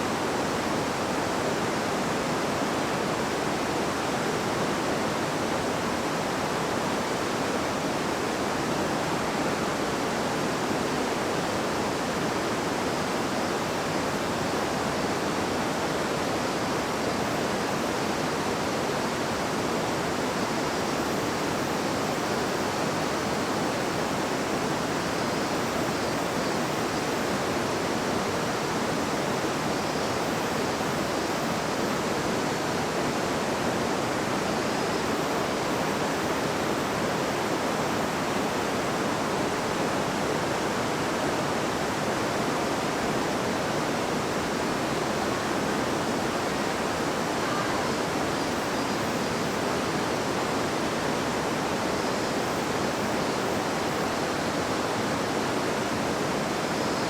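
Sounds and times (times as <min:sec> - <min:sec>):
river water rushing: 0:00.1 - 0:57.0.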